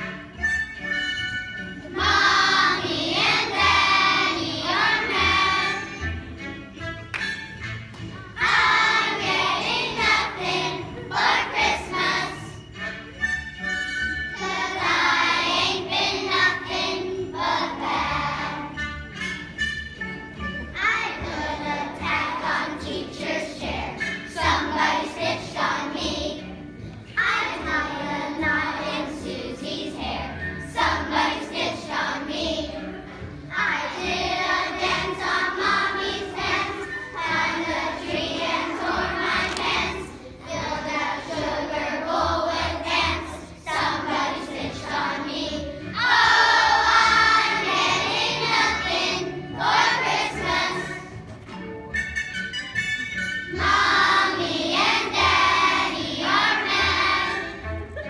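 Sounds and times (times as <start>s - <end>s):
children singing: 1.8s - 6.1s, 8.4s - 12.7s, 14.4s - 18.8s, 20.8s - 26.6s, 27.2s - 51.2s, 53.5s - 58.0s.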